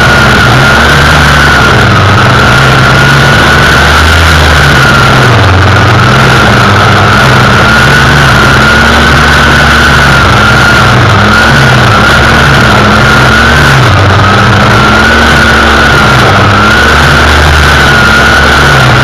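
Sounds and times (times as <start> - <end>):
string trimmer engine whining: 0.0 - 19.0.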